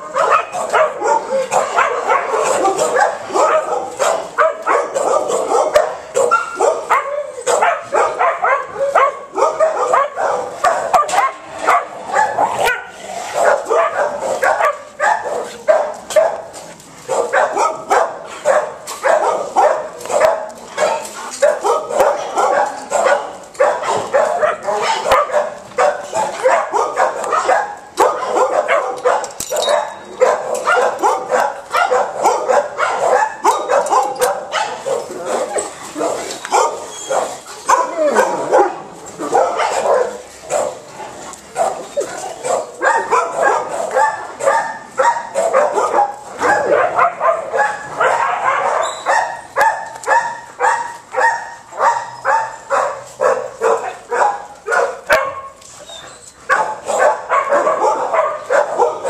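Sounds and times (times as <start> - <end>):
dogs barking and yipping: 0.0 - 59.0.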